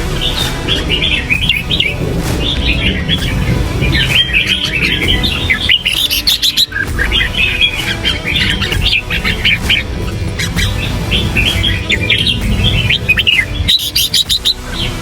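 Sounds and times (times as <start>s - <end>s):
bird warbling chirps: 0.0s - 15.0s.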